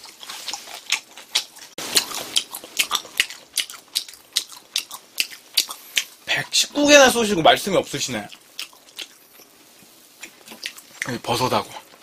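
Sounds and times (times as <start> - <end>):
person chewing with wet smacking: 0.0 - 6.6, 8.1 - 11.2.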